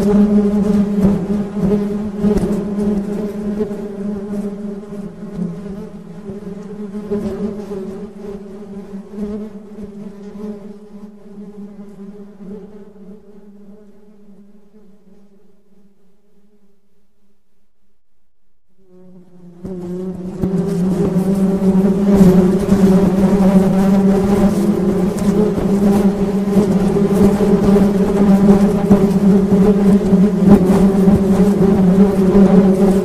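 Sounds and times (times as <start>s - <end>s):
honey bees buzzing: 0.0s - 15.8s, 18.7s - 33.0s.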